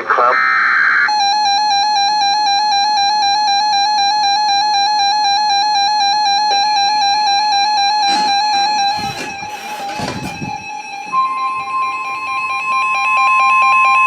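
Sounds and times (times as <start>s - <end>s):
loud steady electronic alert tone: 1.1s - 14.0s.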